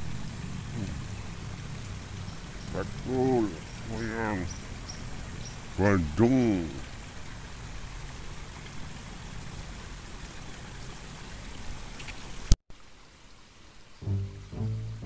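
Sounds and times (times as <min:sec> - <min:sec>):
river water hissing: 0:00.0 - 0:15.0.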